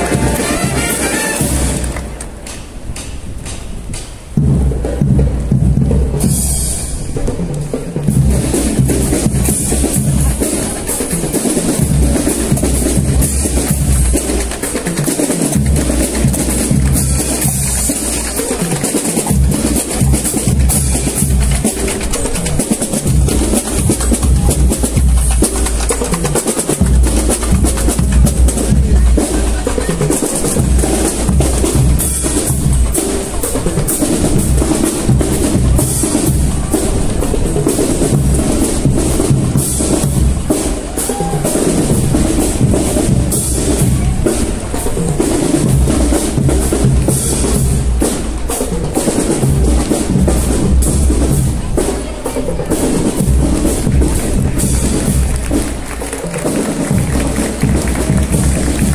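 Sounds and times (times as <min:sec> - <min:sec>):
marching band playing: 0:00.0 - 0:03.1, 0:04.2 - 0:58.9
bass and snare drums beating: 0:00.0 - 0:58.9.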